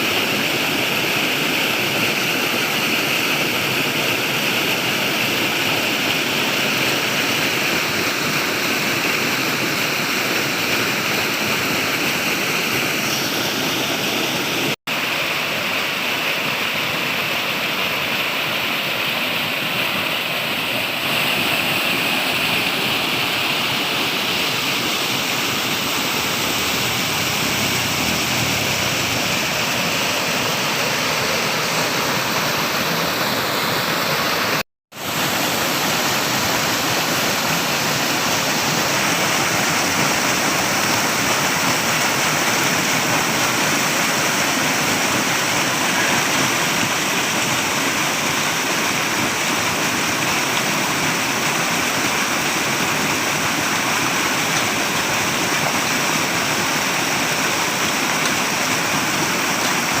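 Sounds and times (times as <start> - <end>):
water rushing: 0.0 - 60.0.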